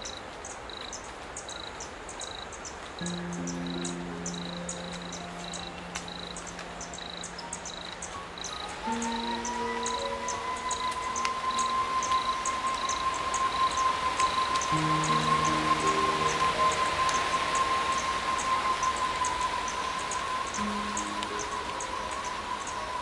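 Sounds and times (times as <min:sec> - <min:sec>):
insects chirping: 0:00.0 - 0:23.0
ambient music of held chords: 0:03.0 - 0:23.0.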